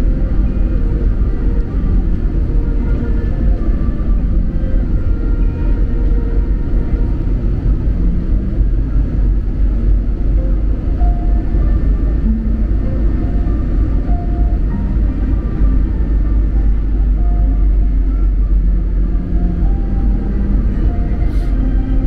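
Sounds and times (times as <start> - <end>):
jet engines rumbling: 0.0 - 22.0
rushing airflow: 0.0 - 22.0.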